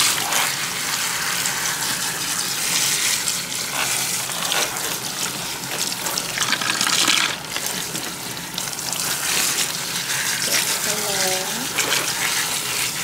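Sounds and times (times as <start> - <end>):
water spraying and splashing: 0.0 - 13.0.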